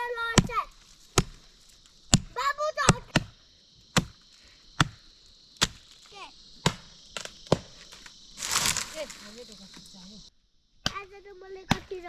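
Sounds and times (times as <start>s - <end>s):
steady high hiss: 0.6s - 10.7s.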